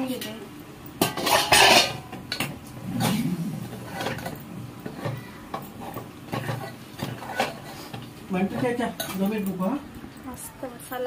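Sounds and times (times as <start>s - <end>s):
utensils clinking against pots: 0.9s - 9.8s.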